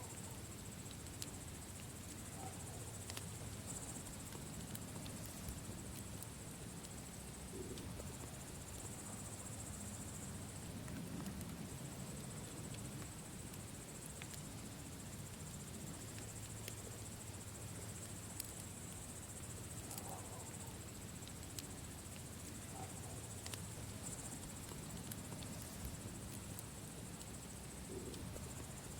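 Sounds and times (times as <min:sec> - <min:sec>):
campfire crackling: 0:00.0 - 0:28.9
insect chirring: 0:00.0 - 0:28.9.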